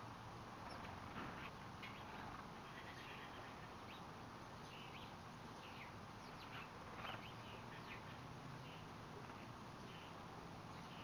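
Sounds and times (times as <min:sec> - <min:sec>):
songbirds chirping faintly: 0:00.0 - 0:11.0
steady background hiss: 0:00.0 - 0:11.0.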